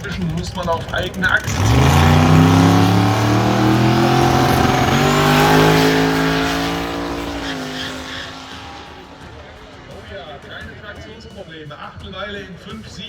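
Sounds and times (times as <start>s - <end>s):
drag race car accelerating: 0.0s - 11.0s.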